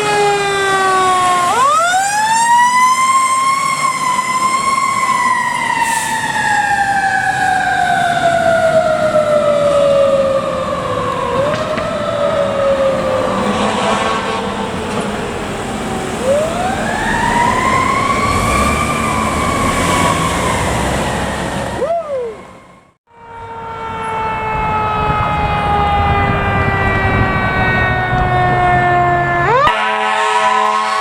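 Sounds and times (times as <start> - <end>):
fire truck siren wailing: 0.0 - 31.0.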